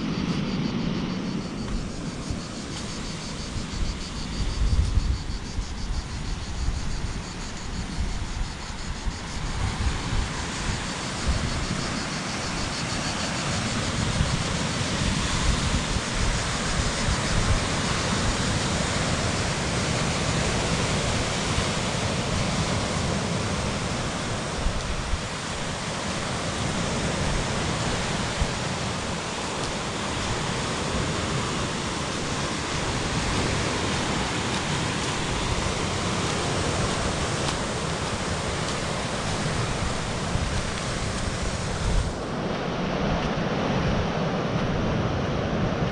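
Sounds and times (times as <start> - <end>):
sea surf on rocky shore: 0.0 - 45.9
wind buffeting microphone: 0.0 - 45.9.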